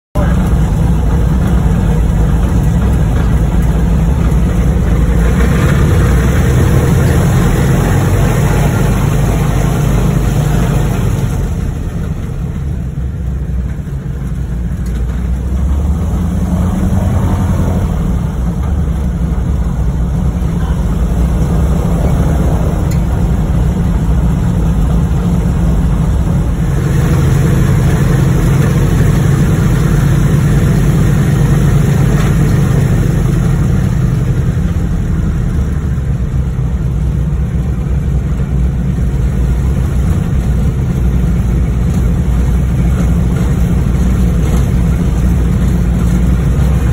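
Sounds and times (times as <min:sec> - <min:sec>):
propeller plane engine drone: 0:00.1 - 0:46.9.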